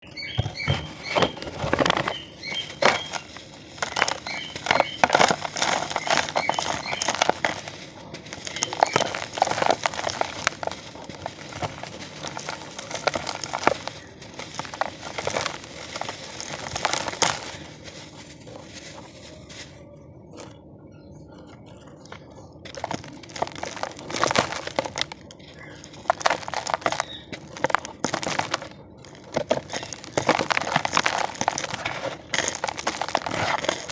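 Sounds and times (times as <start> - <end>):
damp cement crumbling: 0.1 - 19.8, 21.5 - 33.9.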